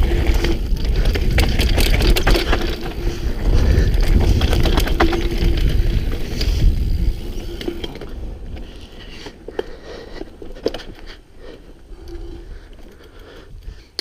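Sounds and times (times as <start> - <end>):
bike clicks knocks and rattles: 0.0 - 14.0
bike tyre rumble: 0.0 - 14.0
wind noise: 0.0 - 14.0.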